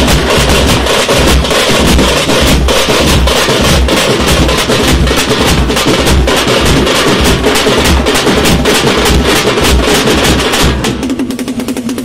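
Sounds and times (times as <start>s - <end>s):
bass drum deep thumps: 0.0s - 11.2s
rapid frame drum strokes: 0.0s - 12.0s
street drum band playing: 0.0s - 12.0s.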